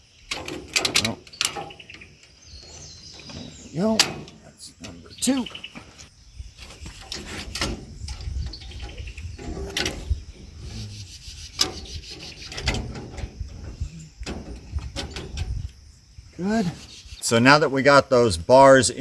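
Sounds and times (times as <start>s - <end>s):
crickets chirring: 0.0s - 19.0s
metal bars knocking and rubbing: 0.3s - 15.7s.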